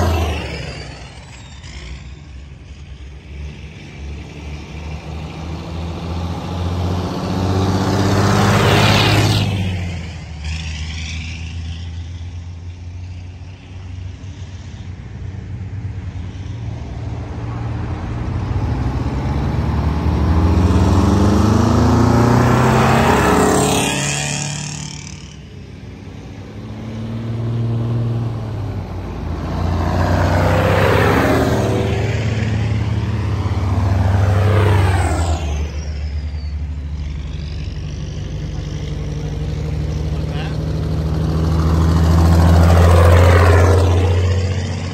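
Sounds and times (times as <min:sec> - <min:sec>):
truck engines driving past: 0:00.0 - 0:44.9.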